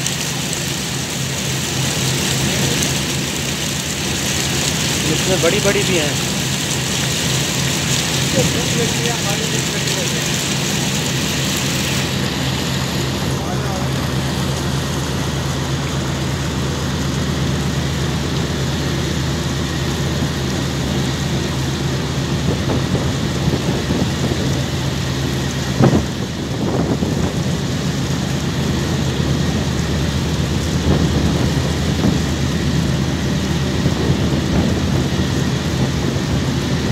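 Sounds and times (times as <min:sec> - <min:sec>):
steady rushing noise: 0:00.0 - 0:36.9.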